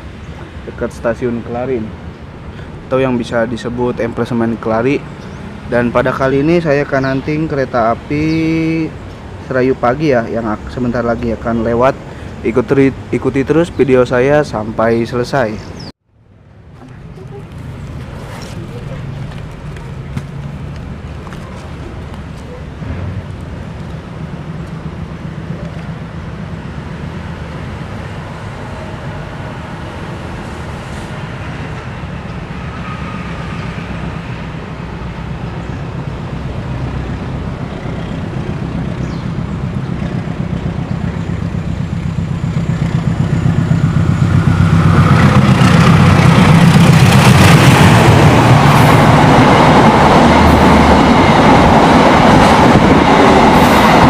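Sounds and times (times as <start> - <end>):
diesel train engine drone: 0.0 - 14.8, 15.6 - 54.0.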